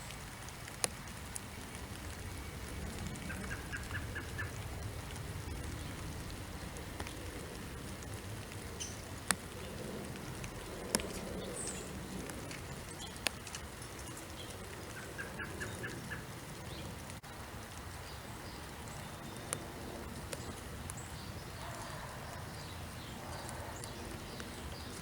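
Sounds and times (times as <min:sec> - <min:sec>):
raindrops ticking: 0:00.0 - 0:25.0
steady low rumble: 0:01.1 - 0:25.0.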